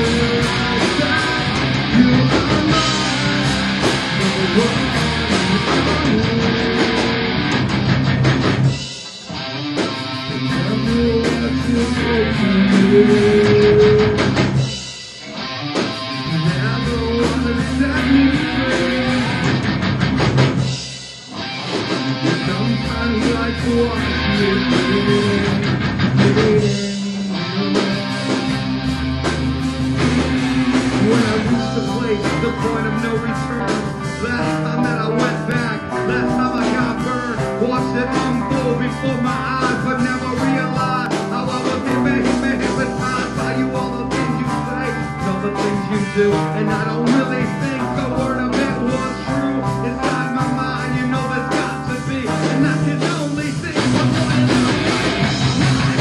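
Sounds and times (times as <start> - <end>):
drum kit playing: 0.0 - 56.0
electric guitars: 0.0 - 56.0.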